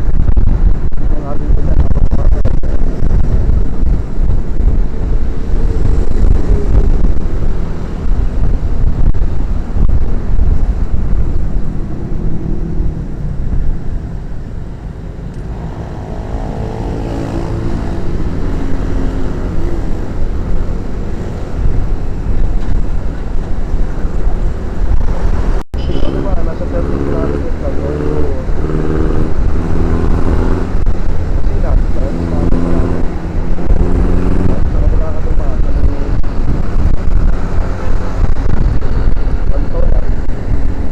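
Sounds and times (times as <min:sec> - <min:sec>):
motorcycle engine and road noise: 0:00.0 - 0:40.9
pitched engine drone: 0:00.0 - 0:40.9.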